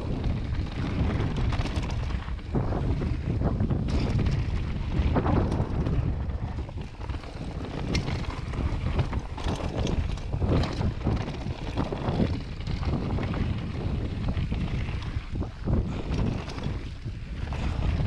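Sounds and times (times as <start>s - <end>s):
bike knocking and rattling: 0.0s - 18.0s
wind buffeting microphone: 0.0s - 18.0s
tyres rumbling on dirt: 3.5s - 18.0s.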